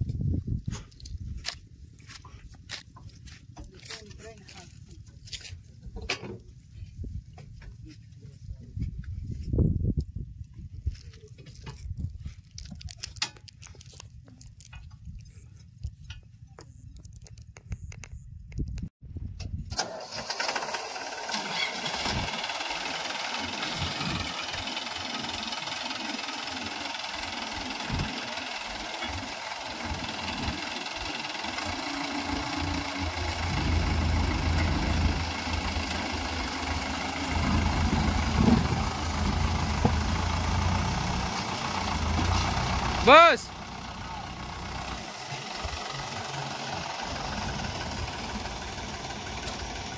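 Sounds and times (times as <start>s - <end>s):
diesel tractor engines: 0.0s - 49.9s.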